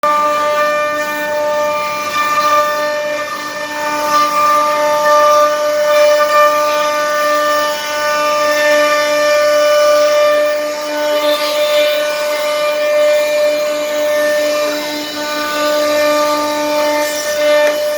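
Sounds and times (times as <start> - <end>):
router spindle whining: 0.0 - 17.9.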